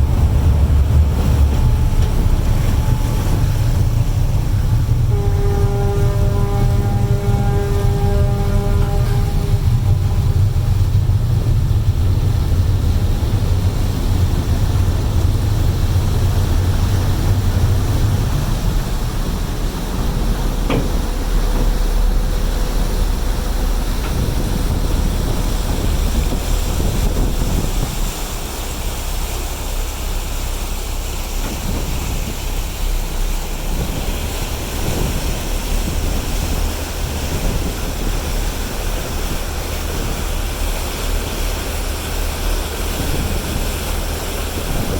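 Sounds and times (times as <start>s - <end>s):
ferry engine low rumble: 0.0s - 44.9s
water wash: 0.0s - 44.9s
wind: 0.0s - 44.9s.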